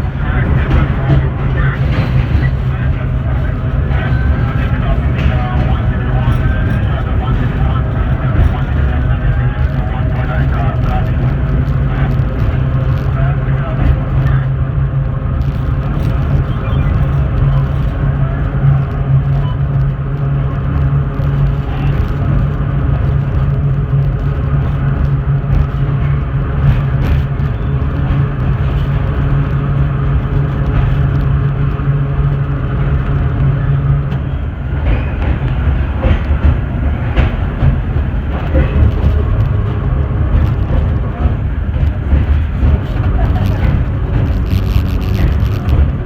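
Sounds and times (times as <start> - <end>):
low hum: 0.0 - 20.3, 22.2 - 46.0
subway car rumbling on track: 0.0 - 46.0.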